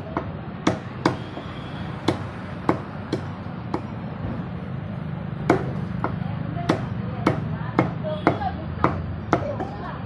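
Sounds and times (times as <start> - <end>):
cleaver chopping on wooden block: 0.1 - 4.0, 5.4 - 9.8.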